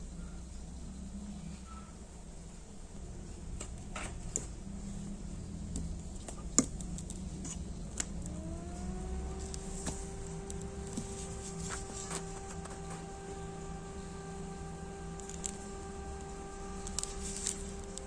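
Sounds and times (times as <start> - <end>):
cooling fan whine: 0.0 - 18.0.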